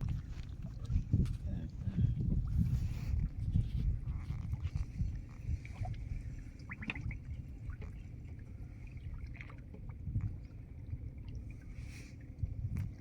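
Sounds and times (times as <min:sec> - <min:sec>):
low uneven rumble: 0:00.0 - 0:13.0
water sloshing and dripping: 0:00.0 - 0:13.0.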